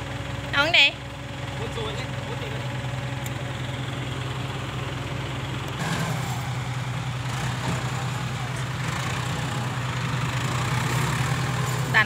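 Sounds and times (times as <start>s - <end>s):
diesel engines humming: 0.0s - 12.0s
tractor diesel engine close by: 0.0s - 12.0s.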